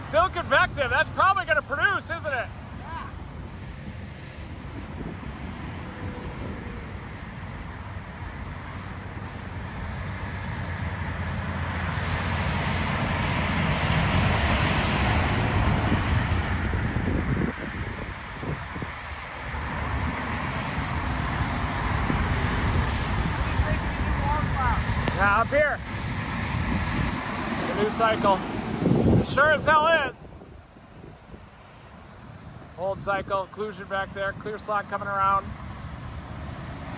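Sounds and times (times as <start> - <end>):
vehicle road and engine noise: 0.0 - 36.9.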